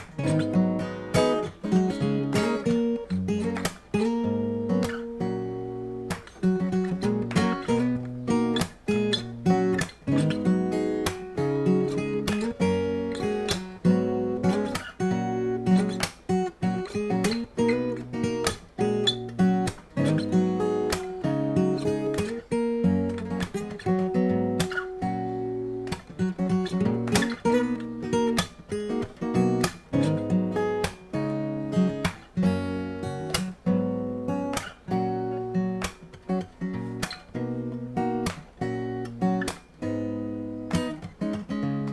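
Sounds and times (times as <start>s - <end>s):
acoustic guitar strumming: 0.0s - 41.9s.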